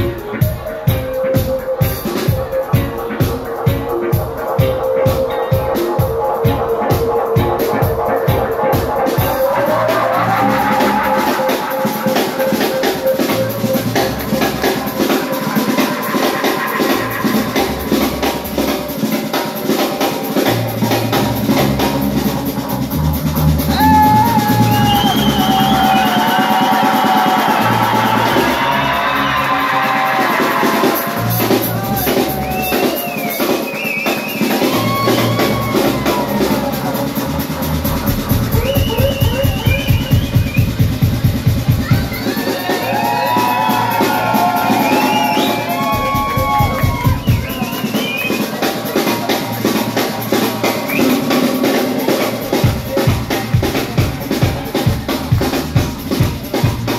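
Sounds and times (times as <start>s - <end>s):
reggae band playing: 0.0s - 56.9s.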